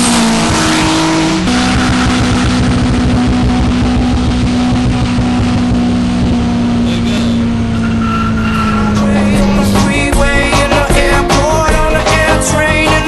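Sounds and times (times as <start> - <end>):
car engine running hard: 0.0 - 13.0.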